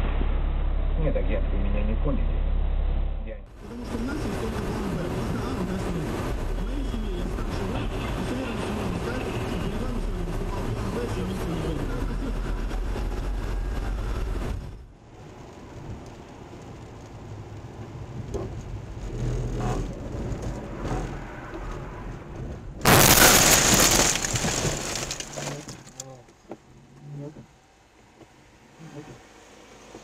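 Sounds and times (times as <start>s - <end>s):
car engine and road noise: 0.0s - 30.0s
tyres rumbling on wet road: 3.5s - 30.0s.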